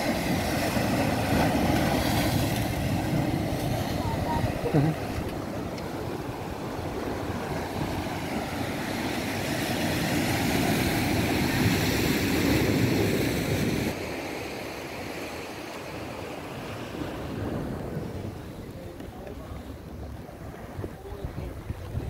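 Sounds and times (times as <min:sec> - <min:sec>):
wind buffeting microphone: 0:00.0 - 0:14.0, 0:16.9 - 0:22.0
waves washing on rocky shore: 0:00.0 - 0:22.0.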